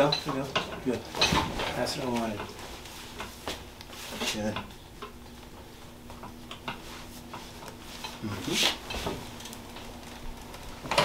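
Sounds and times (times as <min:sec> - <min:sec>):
clothing and table rustling: 0:00.0 - 0:11.0.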